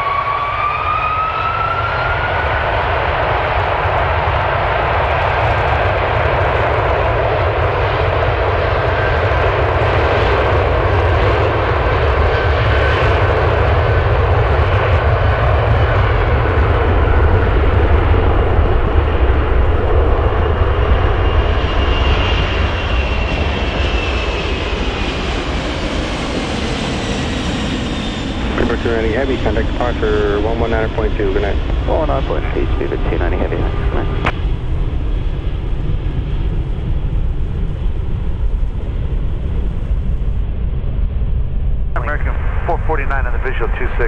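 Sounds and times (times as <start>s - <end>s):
jet engines rumbling at take-off: 0.0s - 44.0s.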